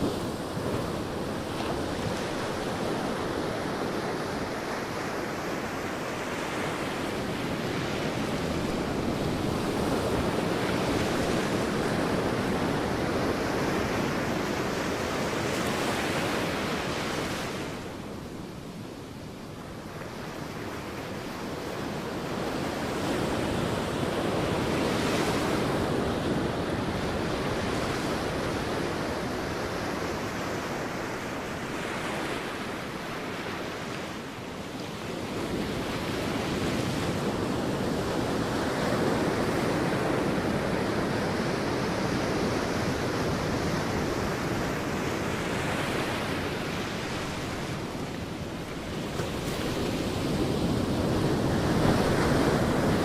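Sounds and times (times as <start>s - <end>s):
sea waves breaking on beach: 0.0s - 53.0s.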